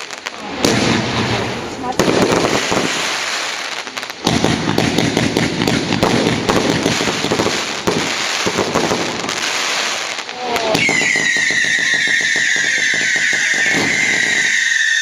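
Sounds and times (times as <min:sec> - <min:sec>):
fireworks crackling: 0:00.0 - 0:15.0
loud firework burst: 0:00.0 - 0:15.0.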